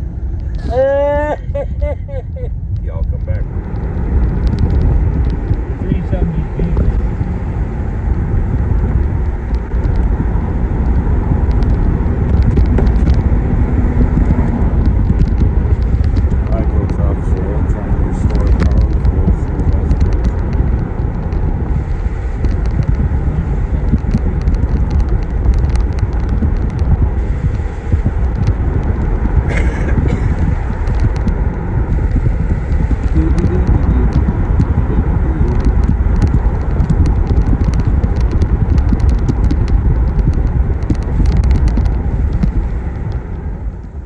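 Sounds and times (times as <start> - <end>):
car road and engine rumble: 0.0 - 44.0
small clicks and ticks: 2.7 - 7.3, 8.1 - 44.0.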